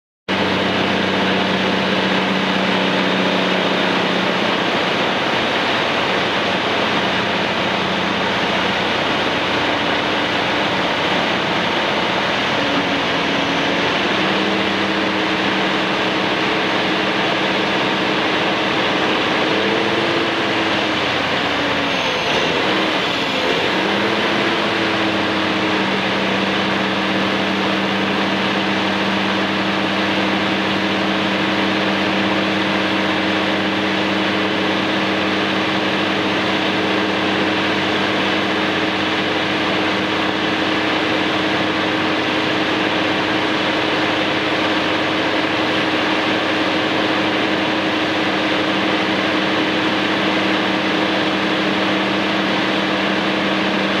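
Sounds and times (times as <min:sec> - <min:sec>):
diesel truck engine running: 0:00.3 - 0:54.0.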